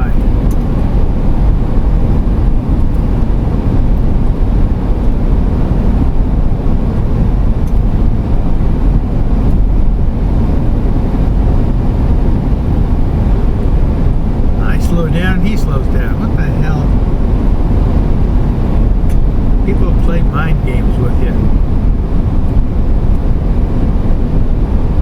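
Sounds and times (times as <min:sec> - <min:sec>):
van driving on highway: 0:00.0 - 0:25.0.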